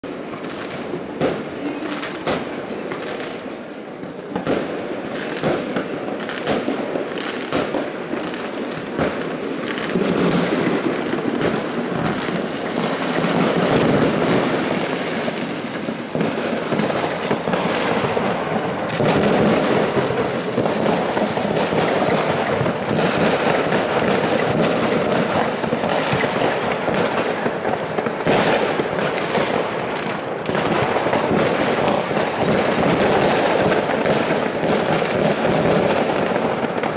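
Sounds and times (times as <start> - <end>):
distant fireworks popping and crackling: 0.0 - 36.9.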